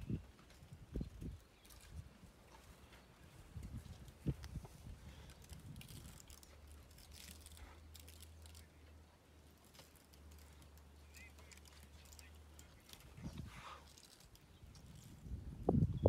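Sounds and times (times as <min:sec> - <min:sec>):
elephant chewing grass: 0:01.4 - 0:15.2.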